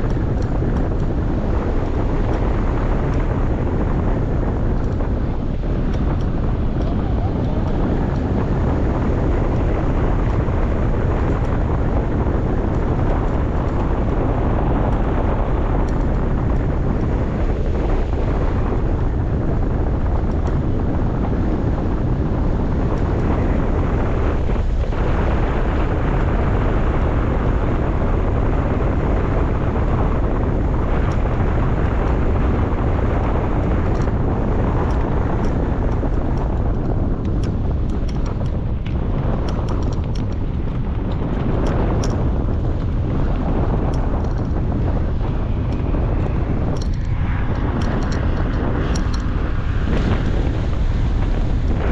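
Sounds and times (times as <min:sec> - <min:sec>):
heavy wind on microphone: 0:00.0 - 0:51.9.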